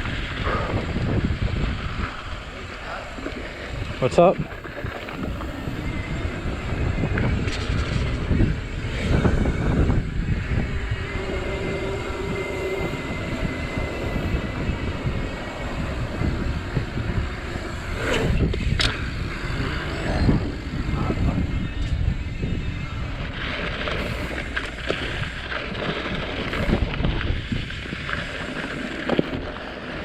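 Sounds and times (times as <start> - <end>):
bike tyres rattling over dirt trail: 0.0 - 30.0.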